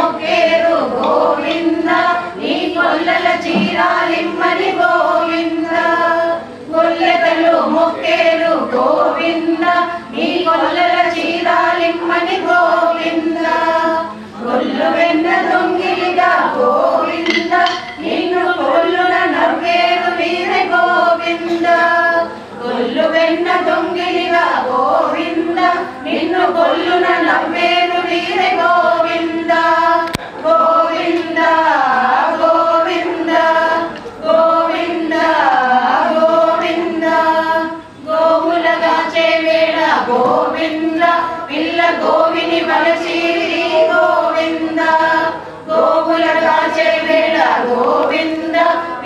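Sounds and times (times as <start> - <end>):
women singing in unison: 0.0 - 49.0.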